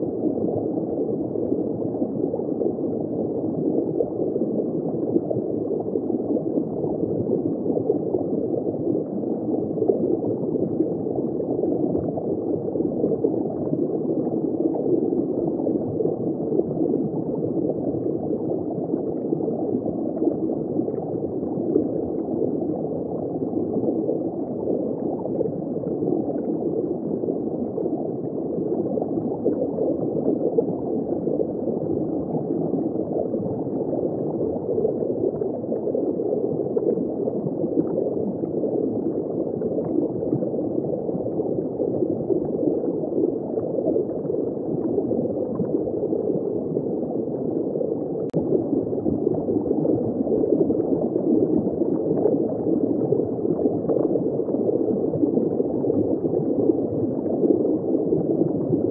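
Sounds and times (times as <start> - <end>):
aquarium water gurgling: 0.0 - 58.9.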